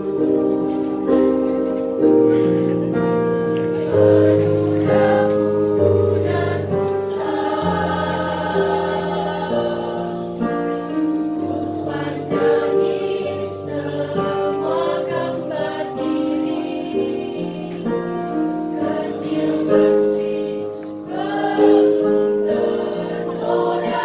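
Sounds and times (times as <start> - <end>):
female choir singing: 0.0 - 2.3, 3.7 - 24.0.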